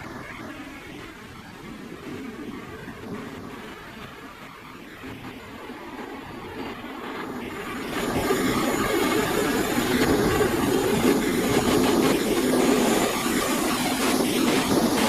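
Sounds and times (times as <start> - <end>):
steam locomotive exhaust beating: 0.0 - 15.0.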